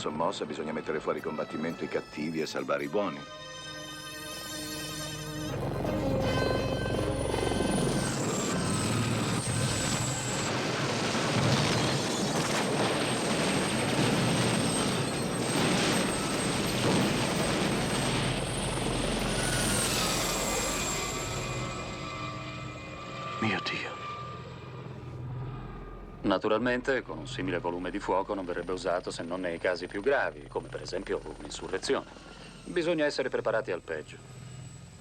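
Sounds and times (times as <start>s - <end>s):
helicopter rotor and engine: 0.0s - 35.0s
turbine whine: 0.0s - 35.0s.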